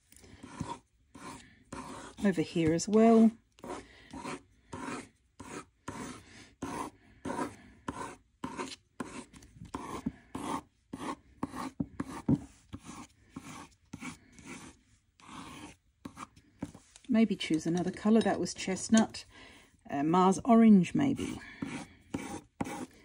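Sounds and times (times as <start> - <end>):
pencil scratching on paper: 0.3 - 16.9, 21.0 - 23.0.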